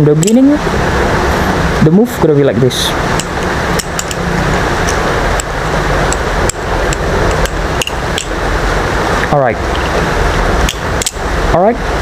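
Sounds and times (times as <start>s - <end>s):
steady rushing background noise: 0.0s - 12.0s.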